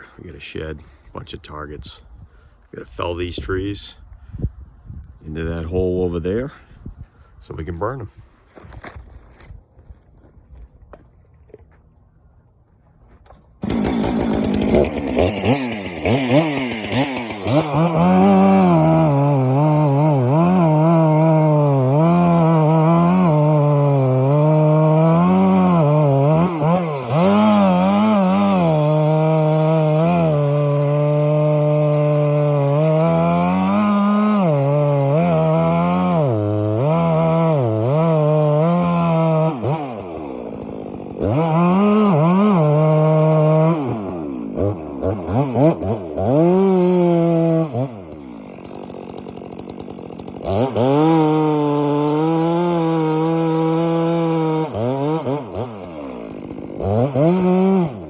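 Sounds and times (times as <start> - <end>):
chainsaw cutting wood: 8.4 - 11.9, 13.1 - 58.0.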